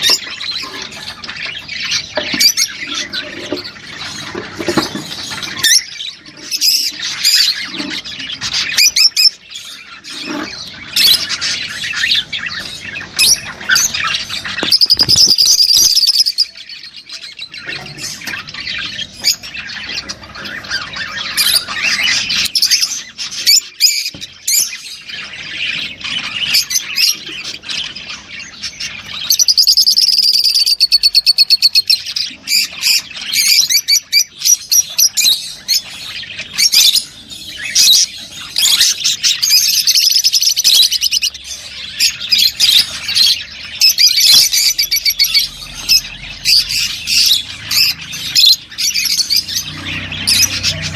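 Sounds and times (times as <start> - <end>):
lovebirds chattering and squawking: 0.0 - 50.9.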